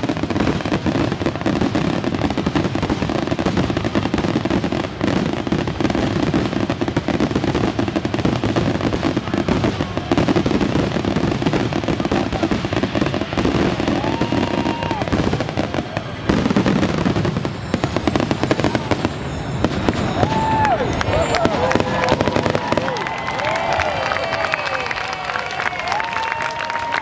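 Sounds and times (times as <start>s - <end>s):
firework whistle: 0.0s - 27.0s
fireworks crackling and bangs: 0.0s - 27.0s.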